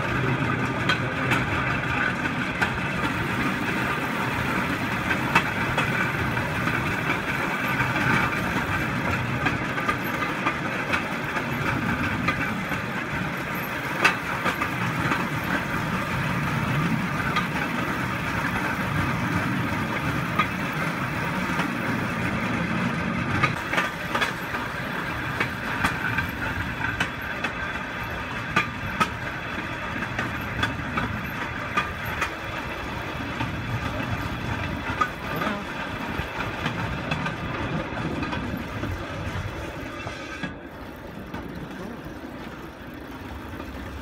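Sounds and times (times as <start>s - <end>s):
steel wheels rolling on track: 0.0s - 44.0s.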